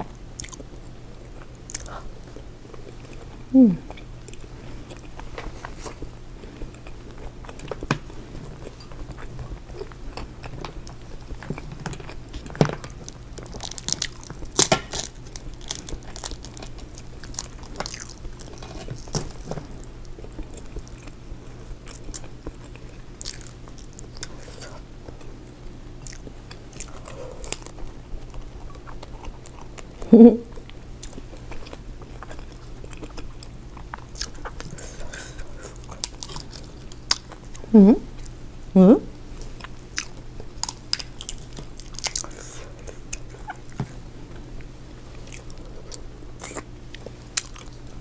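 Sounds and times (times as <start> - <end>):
close chewing and biting: 0.0 - 38.4, 39.3 - 48.0.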